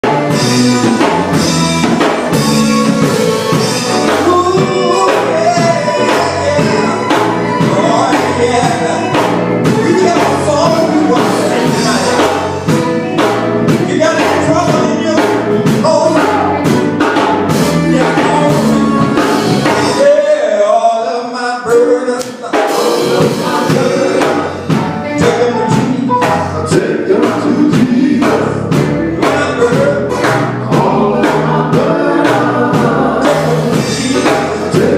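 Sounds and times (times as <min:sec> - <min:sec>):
band playing: 0:00.0 - 0:34.9
group singing: 0:00.0 - 0:34.9
single voice singing: 0:03.6 - 0:34.9.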